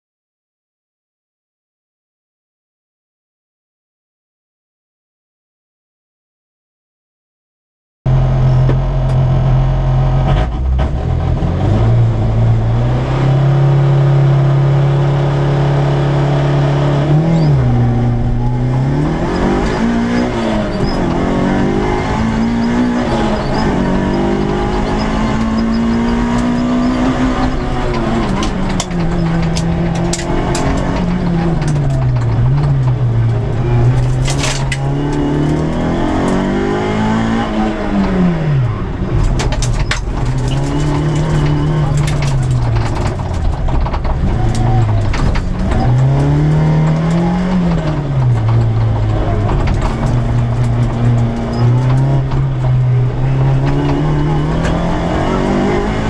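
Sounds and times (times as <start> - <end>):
rally car engine revving: 8.1 - 56.0.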